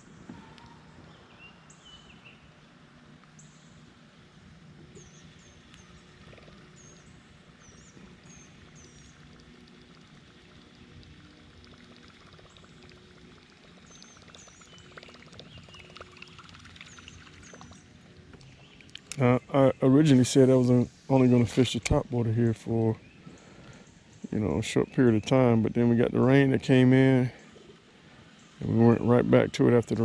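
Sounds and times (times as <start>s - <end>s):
low steady drone: 0.0s - 30.0s
bird chirping: 0.4s - 2.5s, 4.9s - 10.1s, 11.2s - 30.0s.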